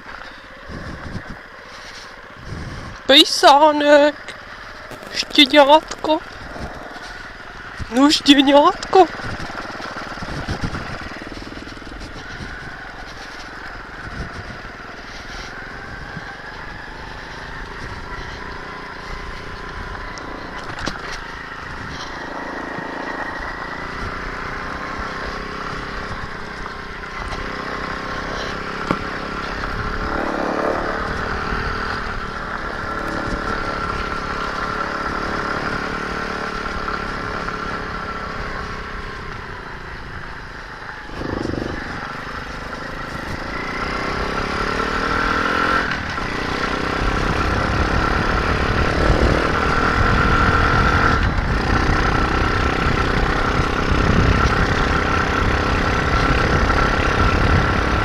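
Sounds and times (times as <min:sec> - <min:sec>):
pitbike engine running: 0:00.0 - 0:58.0.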